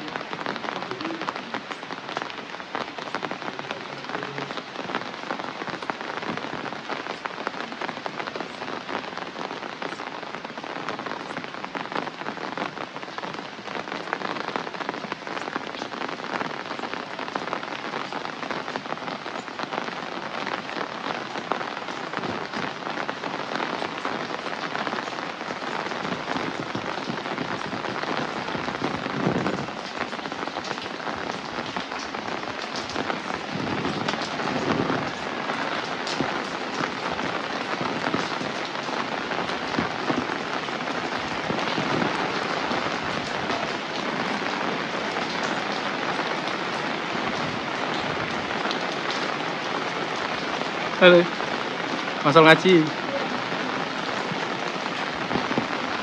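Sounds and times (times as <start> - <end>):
raindrops splashing: 0.0 - 56.0
steady rain falling: 0.0 - 56.0.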